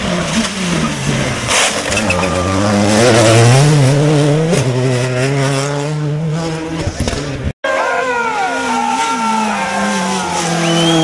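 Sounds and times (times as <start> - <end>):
rally car engine accelerating: 0.0 - 7.5, 8.5 - 11.0.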